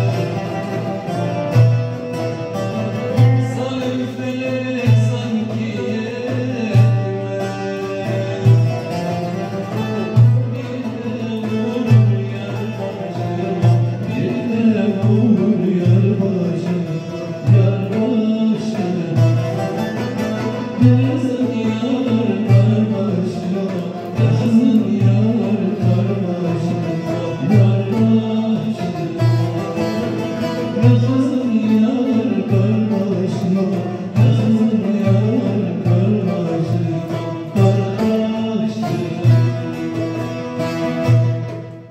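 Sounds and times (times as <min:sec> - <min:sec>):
hand drums: 0:00.0 - 0:41.9
plucked long-necked lutes: 0:00.0 - 0:41.9
man singing long notes: 0:02.7 - 0:19.8, 0:20.5 - 0:40.3.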